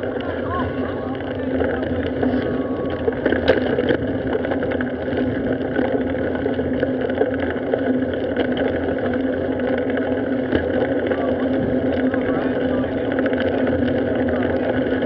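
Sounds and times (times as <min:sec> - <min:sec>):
bicycle tyres rolling on pavement: 0:00.0 - 0:15.0
constant low hum: 0:00.0 - 0:15.0.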